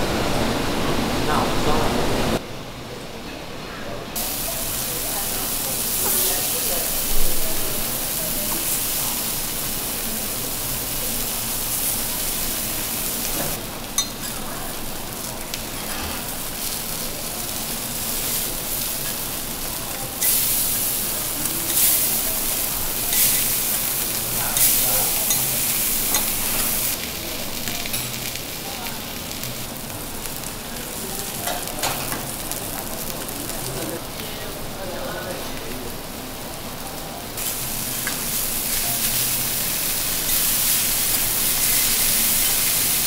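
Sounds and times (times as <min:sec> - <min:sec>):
fish sizzling on a griddle: 0:04.2 - 0:43.0.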